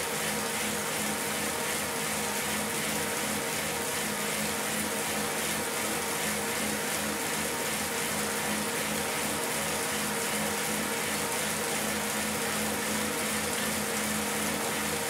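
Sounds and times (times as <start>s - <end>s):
bike trainer whirring: 0.0s - 15.0s.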